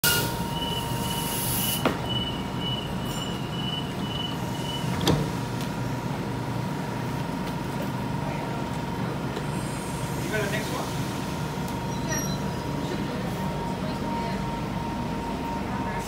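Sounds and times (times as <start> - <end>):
electric train humming with whine: 0.0 - 10.3, 11.0 - 16.0.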